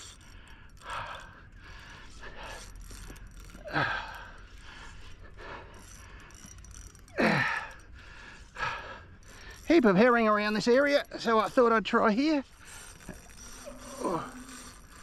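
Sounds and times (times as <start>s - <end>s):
faint breaths: 0.0s - 15.0s.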